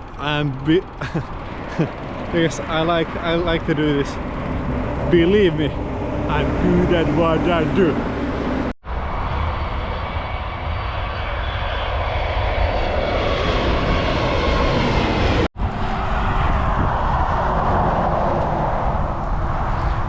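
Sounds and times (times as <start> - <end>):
airplane engines passing close: 0.0 - 20.0.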